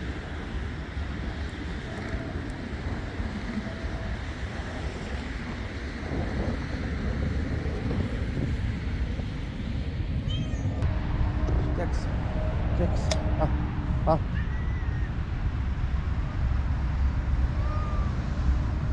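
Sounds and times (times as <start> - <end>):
wind buffeting the microphone: 0.0 - 18.9.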